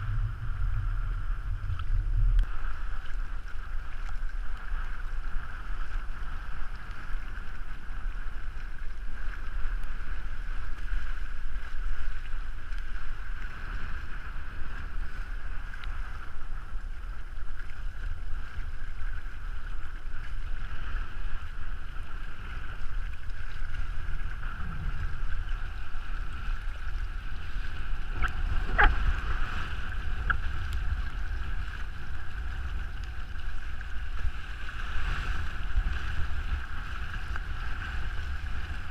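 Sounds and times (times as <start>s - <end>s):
water rushing along hulls: 0.0s - 38.9s
wind buffeting microphone: 0.0s - 38.9s.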